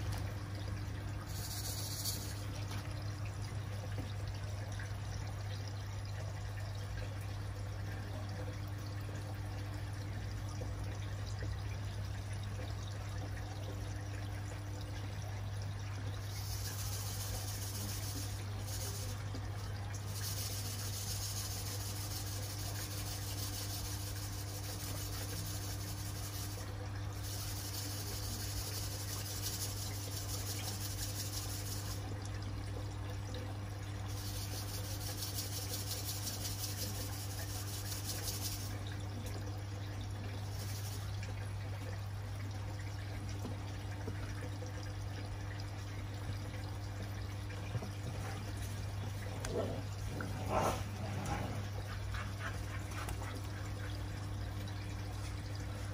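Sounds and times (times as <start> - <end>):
aquarium water bubbling: 0.0 - 55.9.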